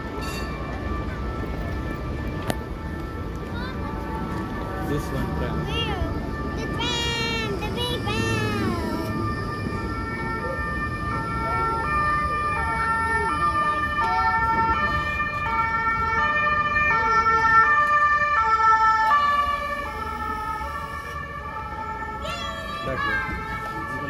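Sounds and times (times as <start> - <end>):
two-tone emergency siren: 0.0 - 24.0.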